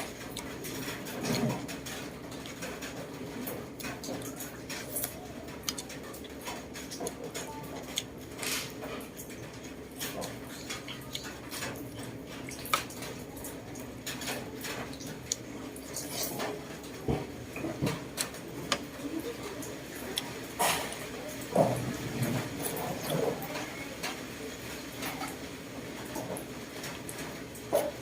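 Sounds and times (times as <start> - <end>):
utensils clinking against a bowl: 0.0 - 24.2.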